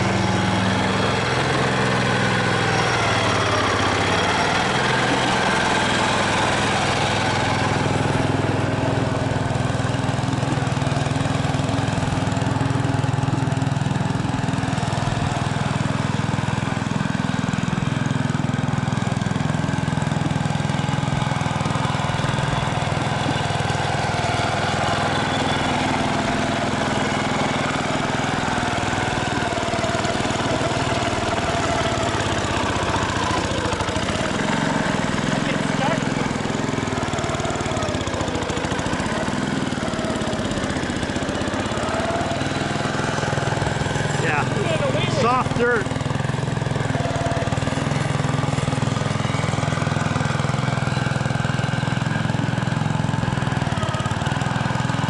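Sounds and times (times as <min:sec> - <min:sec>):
road roller engine running: 0:00.0 - 0:55.0.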